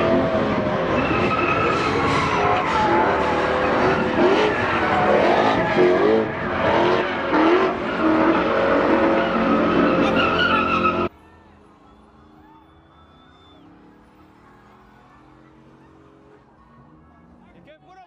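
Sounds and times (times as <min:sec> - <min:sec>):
truck engine revving: 0:00.0 - 0:17.6
tyres squealing on pavement: 0:00.8 - 0:17.8.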